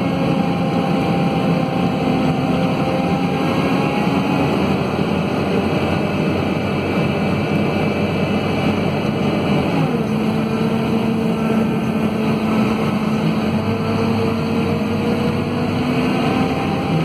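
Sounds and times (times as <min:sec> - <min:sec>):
diesel bus engine running: 0:00.0 - 0:17.0.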